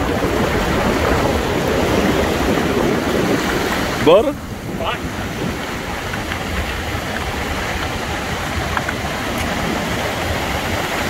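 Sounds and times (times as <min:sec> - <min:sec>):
surf washing around rocks: 0:00.0 - 0:11.0
wind buffeting microphone: 0:00.0 - 0:11.0.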